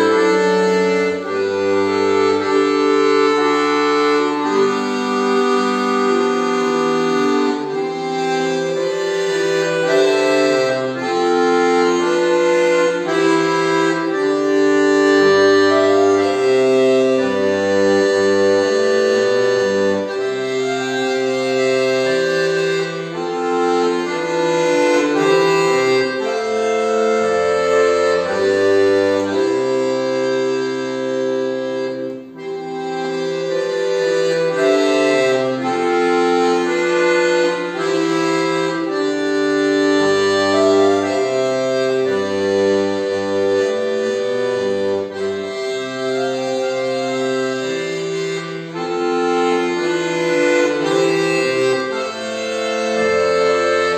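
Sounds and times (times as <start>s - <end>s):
button accordion melody: 0.0s - 53.9s.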